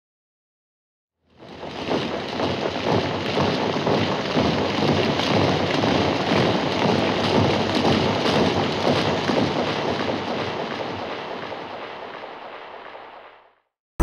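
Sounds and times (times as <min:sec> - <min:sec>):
fine crackle: 0:01.3 - 0:13.4
steady rushing noise: 0:01.4 - 0:13.3.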